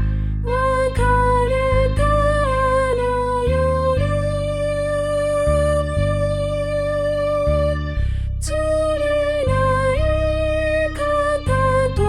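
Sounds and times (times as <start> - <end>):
electric bass line: 0.0 - 12.0
synthesized female singing voice: 0.0 - 12.0
synthesized strings: 0.0 - 12.0.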